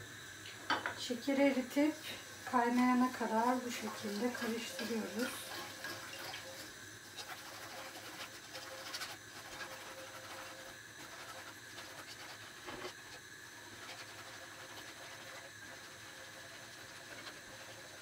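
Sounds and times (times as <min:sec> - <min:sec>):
whisk scraping saucepan: 0:02.5 - 0:18.0.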